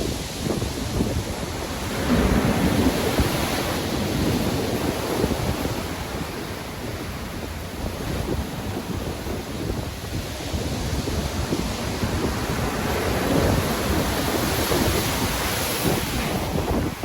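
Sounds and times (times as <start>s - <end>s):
sea waves surging: 0.0s - 17.0s
wind: 0.0s - 17.0s.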